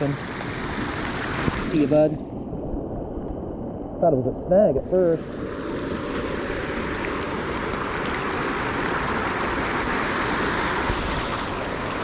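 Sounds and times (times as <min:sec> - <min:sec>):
water rushing in rain: 0:00.0 - 0:12.0.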